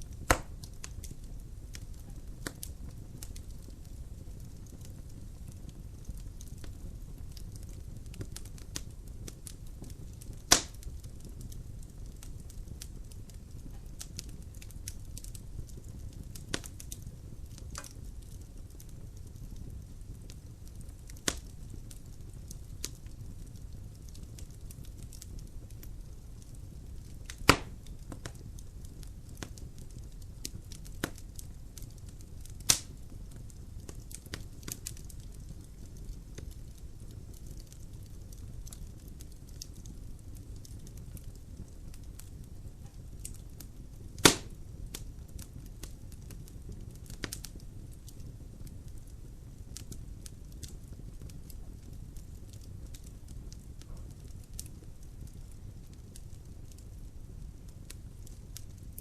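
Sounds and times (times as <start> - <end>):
fire crackling and snapping: 0.0 - 59.0
loud fire pops: 0.0 - 59.0
low rumble of fire: 0.0 - 59.0.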